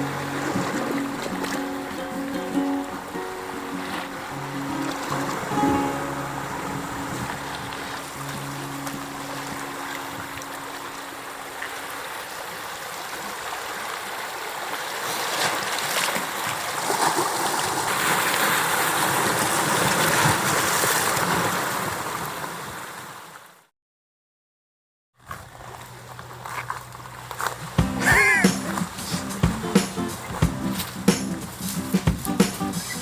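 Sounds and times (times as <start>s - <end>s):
sea water rushing and sloshing: 0.0s - 23.5s, 27.0s - 33.0s.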